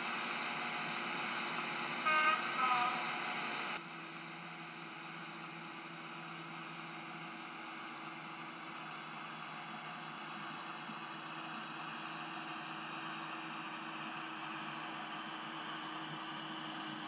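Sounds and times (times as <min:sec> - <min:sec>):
model locomotive humming: 0:00.0 - 0:17.0.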